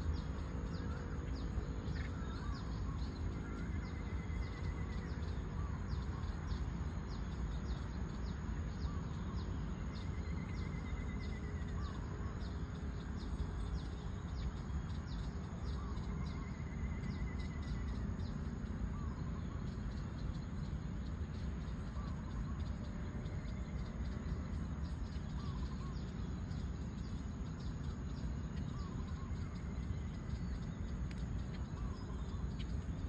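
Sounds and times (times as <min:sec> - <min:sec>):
bird trill: 0:00.0 - 0:33.0
low background rumble: 0:00.0 - 0:33.0.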